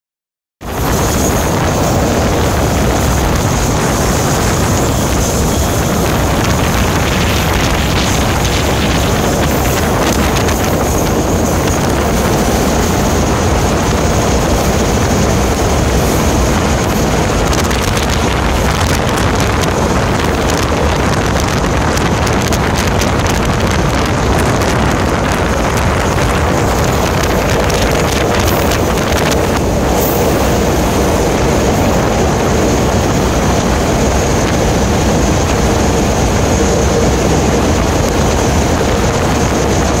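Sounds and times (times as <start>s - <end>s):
train running rumble: 0.6s - 40.0s
wind on microphone: 0.6s - 40.0s.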